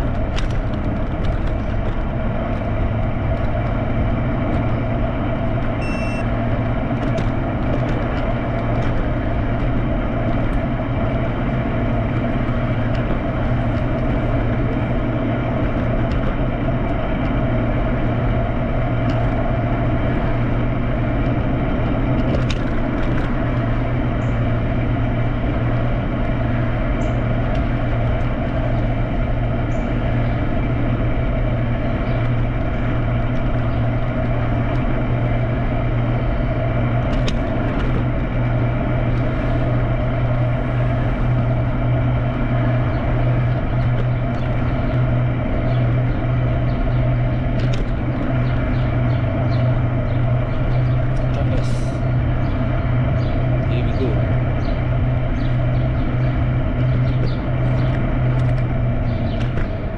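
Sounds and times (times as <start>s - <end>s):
vehicle humming along street: 0.0s - 59.9s.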